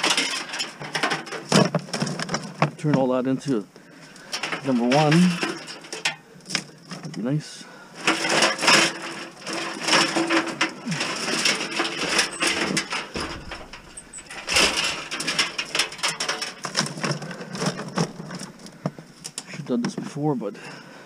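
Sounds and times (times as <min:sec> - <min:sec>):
scrap wire rustling and clattering: 0:00.0 - 0:02.8, 0:04.0 - 0:07.2, 0:08.0 - 0:19.5.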